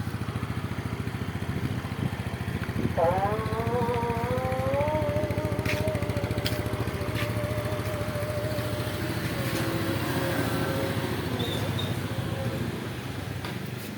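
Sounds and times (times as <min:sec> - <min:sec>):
scooter engine idling: 0:00.0 - 0:13.9.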